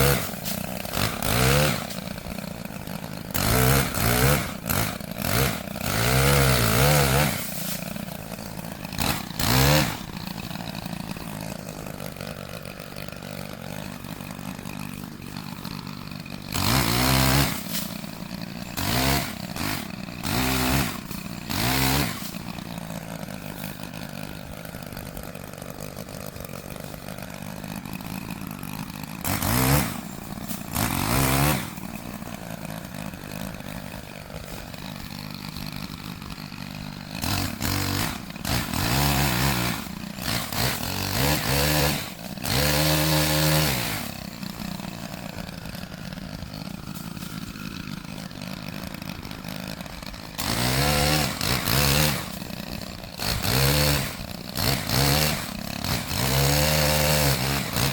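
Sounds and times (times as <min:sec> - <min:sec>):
chainsaw idling and revving: 0:00.0 - 0:57.9.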